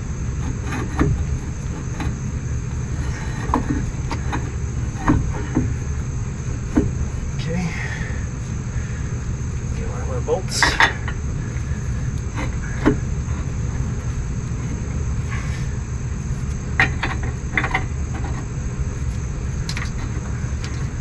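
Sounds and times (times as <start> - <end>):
insect drone: 0.0 - 21.0
steady low rumble: 0.0 - 21.0.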